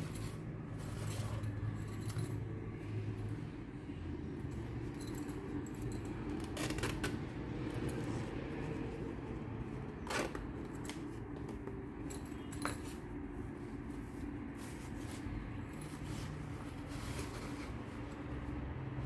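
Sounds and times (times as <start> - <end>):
stationery rustling by hand: 0.0 - 19.0.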